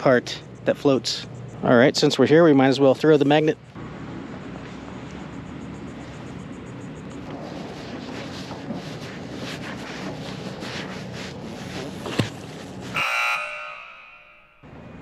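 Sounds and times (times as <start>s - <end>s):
wind and water noise: 0.0s - 13.3s.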